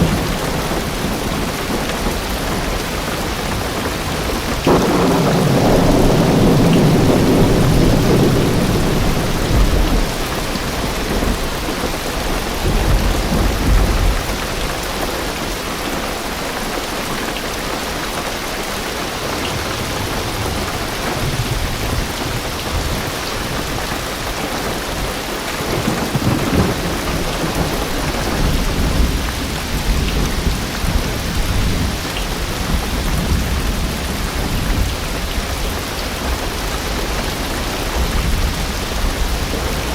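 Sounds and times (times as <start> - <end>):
thunder rolling: 0.0 - 15.0, 19.4 - 39.9
heavy rain drumming on car roof: 0.0 - 39.9.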